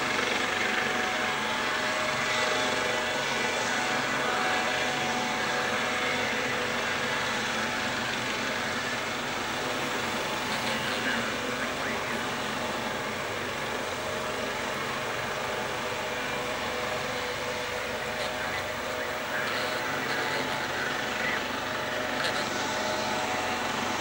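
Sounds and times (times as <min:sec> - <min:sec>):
turboprop engine humming: 0:00.0 - 0:24.0.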